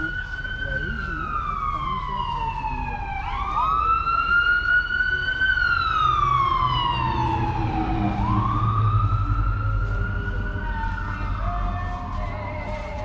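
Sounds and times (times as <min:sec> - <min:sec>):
wailing siren: 0:00.0 - 0:13.0.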